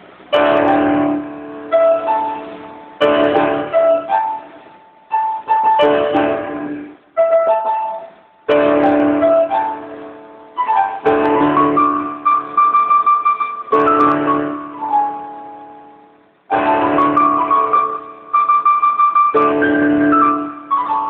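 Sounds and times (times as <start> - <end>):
solo piano melody: 0.0 - 21.0.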